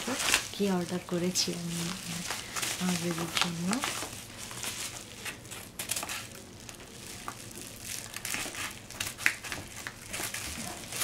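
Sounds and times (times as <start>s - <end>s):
paper envelope crinkling: 0.0s - 11.0s.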